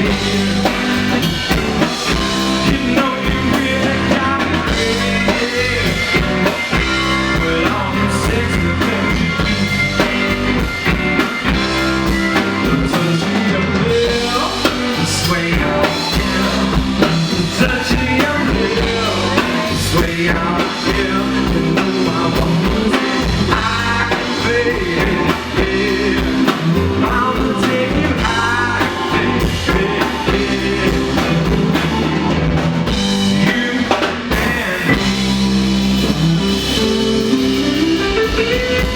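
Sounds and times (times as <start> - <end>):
person singing: 0.0 - 10.2, 12.0 - 32.6, 33.3 - 35.4
drum kit: 0.0 - 38.9
electric guitar: 0.0 - 38.9.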